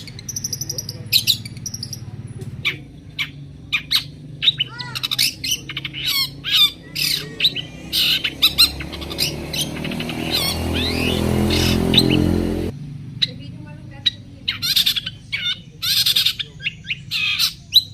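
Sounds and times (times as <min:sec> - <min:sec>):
bird calling with sharp notes: 0:00.0 - 0:17.9.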